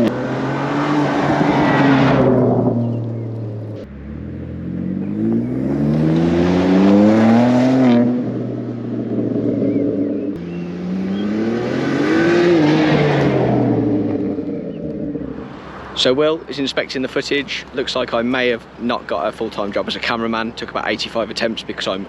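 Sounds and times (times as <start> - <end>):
car engine accelerating: 0.0 - 18.5.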